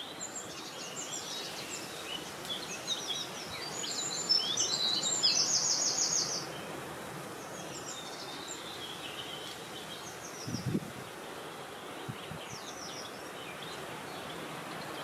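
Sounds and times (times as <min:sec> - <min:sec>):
songbirds twittering: 0:00.0 - 0:15.0
wind hiss: 0:00.0 - 0:15.0.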